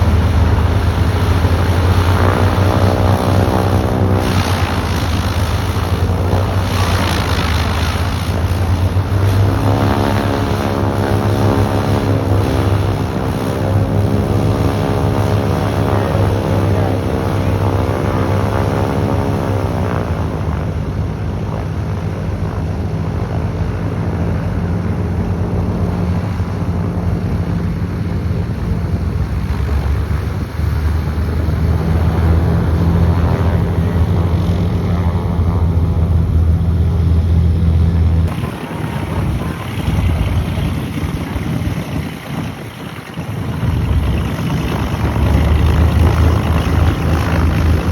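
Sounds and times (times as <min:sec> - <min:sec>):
propeller aircraft engine: 0:00.0 - 0:47.9.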